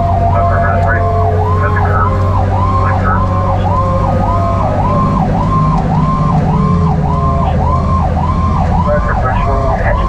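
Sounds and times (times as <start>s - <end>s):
fire engine siren yelping: 0.0s - 10.0s
truck engine rumble: 0.0s - 10.0s.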